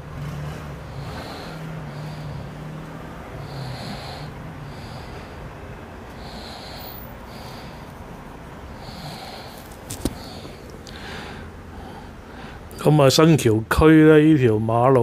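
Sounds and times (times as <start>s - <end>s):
heavy breathing: 0.0s - 12.8s
vehicle low hum: 0.0s - 14.9s
low street noise: 0.0s - 15.0s.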